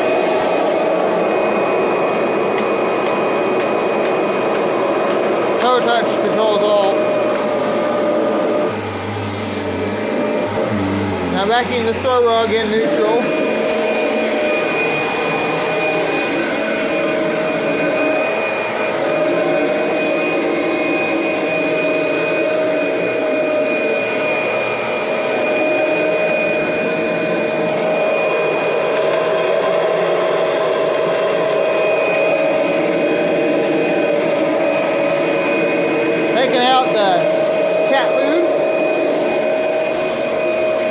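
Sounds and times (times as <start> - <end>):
vacuum cleaner whine: 0.0 - 40.9.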